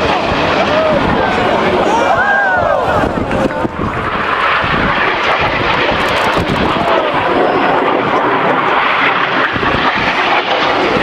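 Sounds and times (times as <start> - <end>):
jet engines in flight: 0.0 - 11.0.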